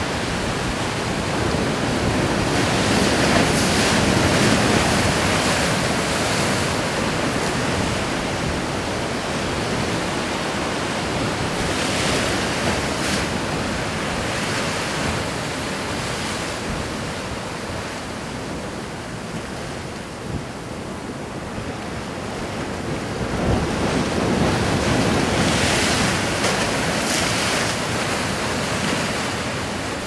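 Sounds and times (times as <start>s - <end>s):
waves washing against breakwater: 0.0s - 30.0s.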